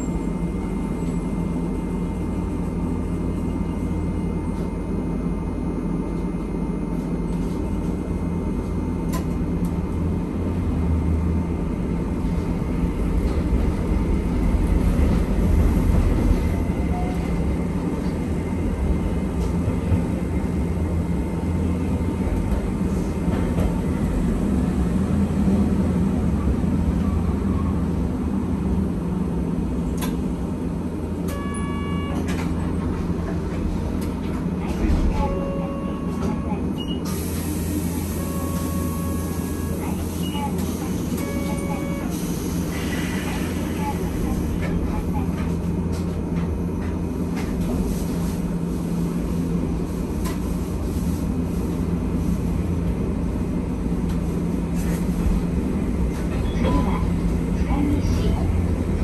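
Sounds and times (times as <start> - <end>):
streetcar wheels rumbling on rail: 0.0 - 59.0.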